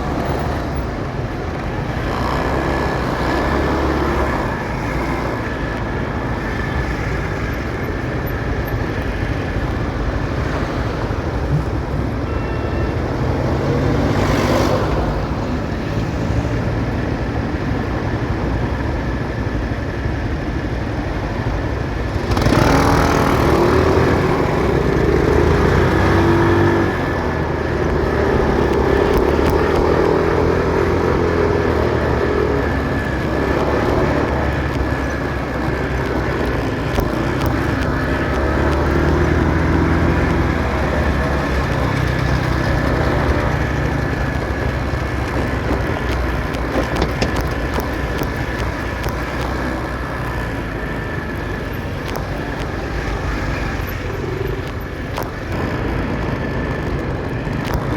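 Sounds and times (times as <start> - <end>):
motorcycle engine revving: 0.0 - 12.3, 21.9 - 57.9
road noise: 0.0 - 57.9.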